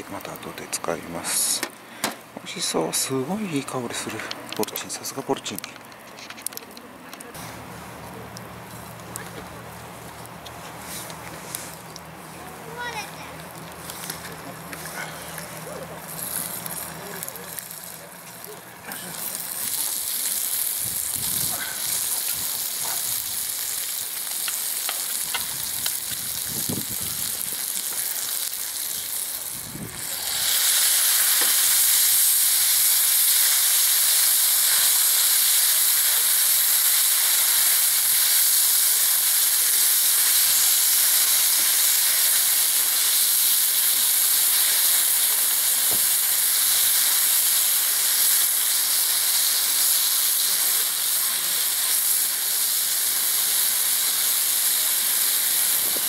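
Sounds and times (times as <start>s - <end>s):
food sizzling in skillet: 10.8s - 56.0s.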